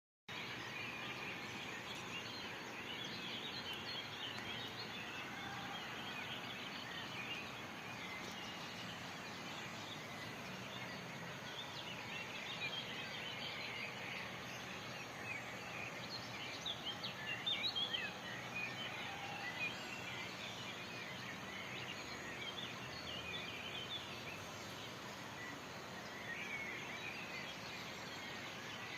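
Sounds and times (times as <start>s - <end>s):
birds chirping and singing: 0.3s - 28.9s
steady outdoor hiss: 0.3s - 28.9s.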